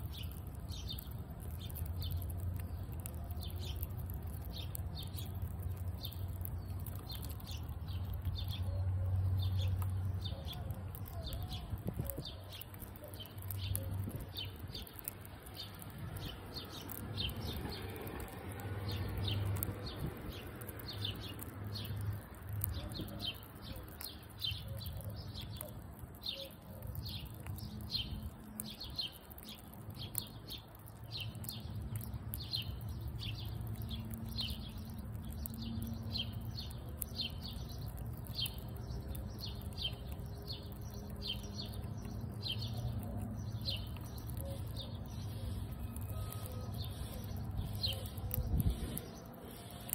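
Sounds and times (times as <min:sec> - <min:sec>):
small bird chirping: 0:00.0 - 0:49.9
squirrel chewing and crunching nut: 0:00.0 - 0:49.9.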